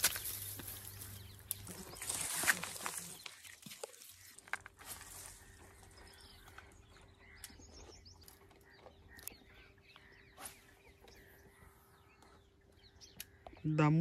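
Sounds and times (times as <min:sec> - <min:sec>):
faint bird chirps: 0:00.2 - 0:14.0.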